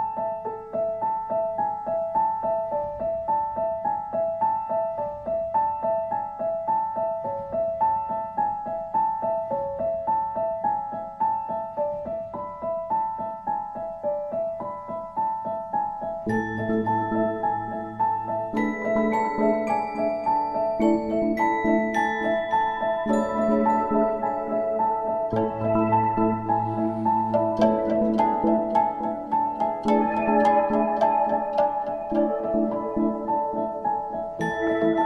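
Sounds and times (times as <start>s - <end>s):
gentle piano-like keyboard notes: 0.0s - 35.0s.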